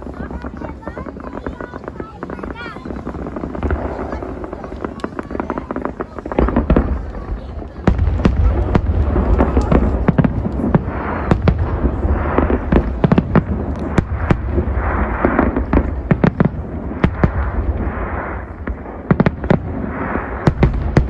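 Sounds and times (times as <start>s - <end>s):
fireworks bangs and pops: 0.0s - 21.0s
fireworks hiss: 0.0s - 21.0s.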